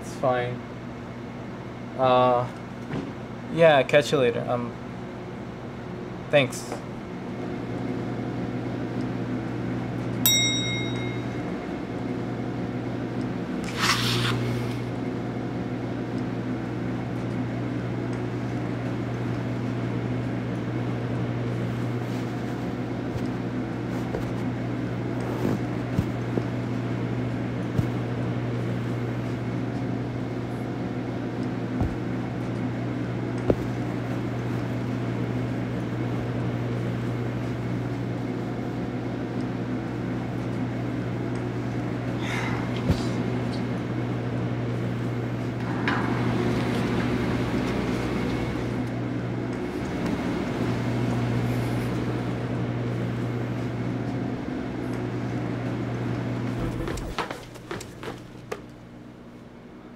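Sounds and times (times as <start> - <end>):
machines humming: 0.0 - 13.8, 14.4 - 59.9.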